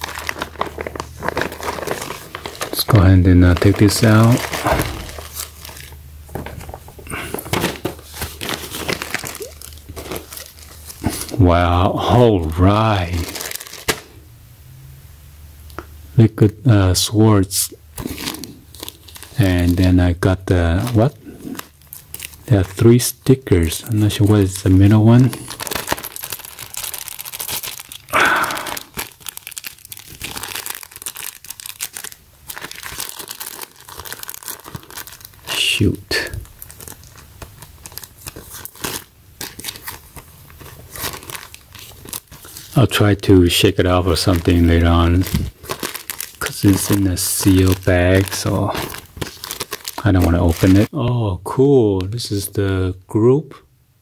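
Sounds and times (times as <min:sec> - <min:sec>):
plastic bags crinkling: 0:00.0 - 0:14.2, 0:18.0 - 0:50.9.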